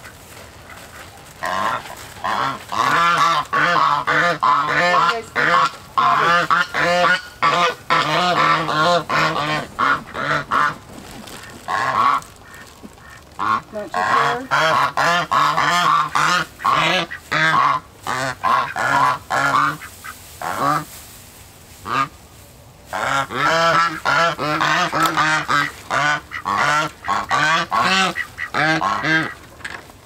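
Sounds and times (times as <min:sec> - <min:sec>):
geese honking: 0:00.0 - 0:21.0, 0:21.8 - 0:22.2, 0:22.9 - 0:29.5.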